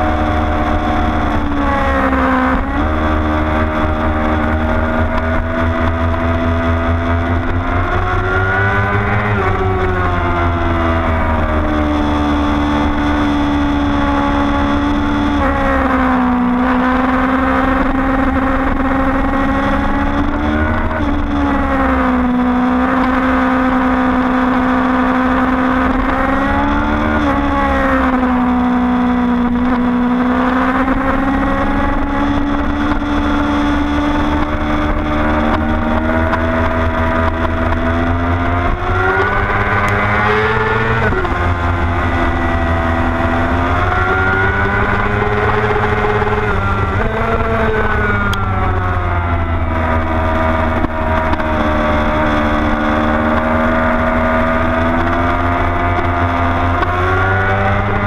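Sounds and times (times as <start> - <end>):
motorcycle engine revving: 0.0 - 58.0
wind rumble: 0.0 - 58.0.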